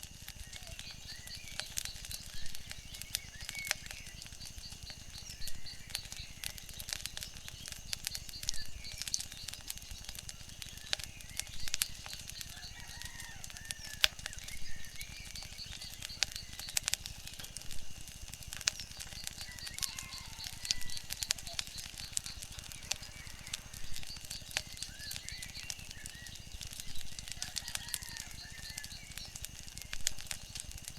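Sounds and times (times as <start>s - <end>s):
wood fire crackling and popping: 0.0s - 30.9s
faint bird chirps: 0.3s - 17.8s, 18.5s - 30.7s.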